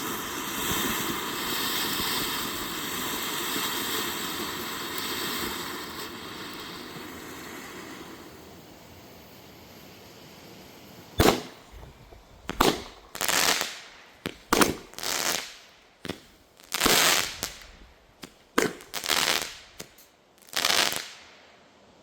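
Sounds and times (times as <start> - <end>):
firework reports: 0.0 - 20.0
firework hissing crackle: 0.0 - 21.8.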